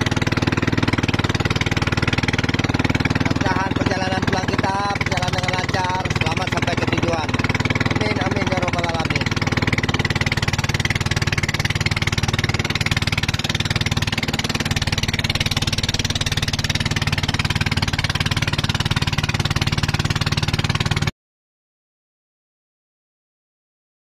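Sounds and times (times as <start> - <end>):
boat engine running: 0.0 - 21.1
water noise: 0.0 - 21.1.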